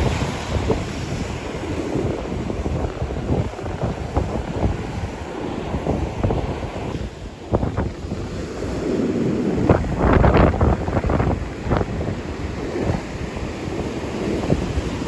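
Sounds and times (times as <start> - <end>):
surf breaking: 0.0 - 15.0
wind buffeting microphone: 0.0 - 15.0.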